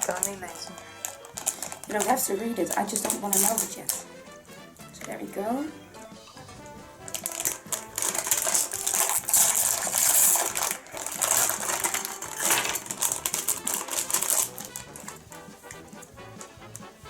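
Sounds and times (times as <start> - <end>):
small plastic pieces clattering: 0.0 - 4.0, 7.0 - 16.8
plastic wrapper crinkling: 0.0 - 4.1, 6.5 - 16.9.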